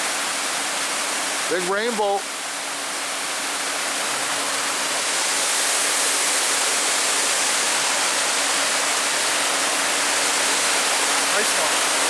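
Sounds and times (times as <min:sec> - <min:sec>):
water rushing over dam: 0:00.0 - 0:12.0.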